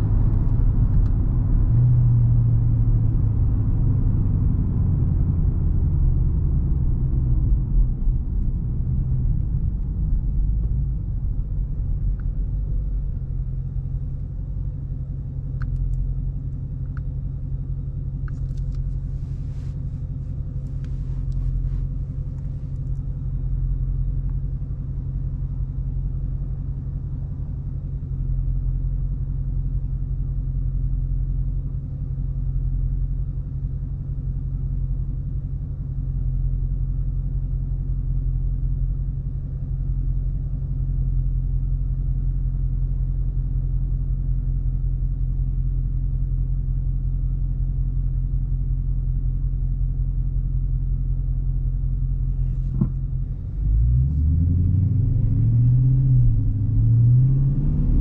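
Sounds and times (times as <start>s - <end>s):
car engine rumbling while driving: 0.0s - 58.0s.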